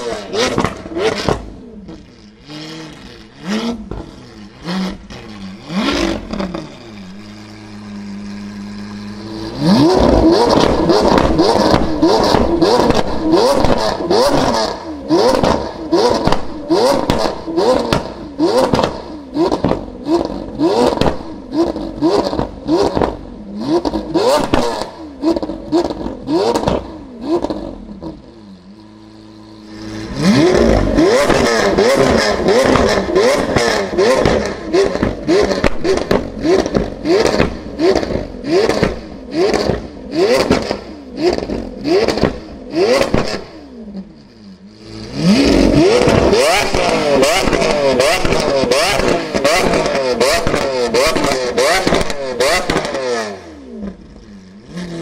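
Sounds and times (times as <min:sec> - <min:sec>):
exhaust cracks: 0:00.0 - 0:55.0
sports car engine revving: 0:00.0 - 0:55.0.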